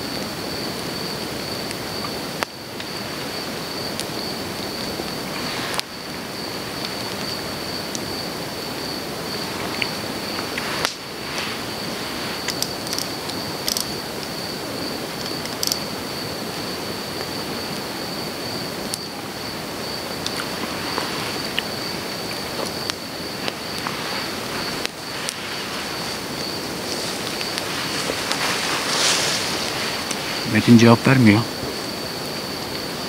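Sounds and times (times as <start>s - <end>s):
rain on grass: 0.0s - 33.0s.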